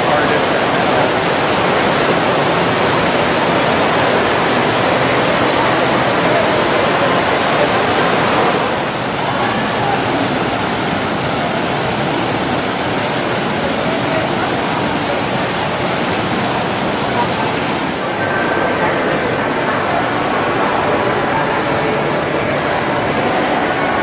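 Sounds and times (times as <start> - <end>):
crowd murmur: 0.0 - 24.0
fountain water splashing: 0.0 - 24.0.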